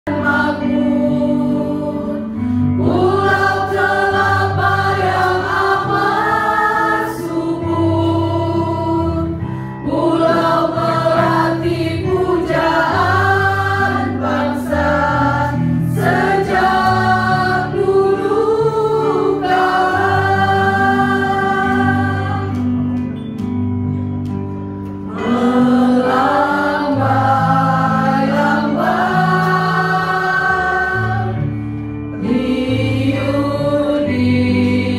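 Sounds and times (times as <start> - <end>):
mixed choir singing: 0.1 - 22.8, 25.1 - 34.9
karaoke backing track: 0.1 - 34.9.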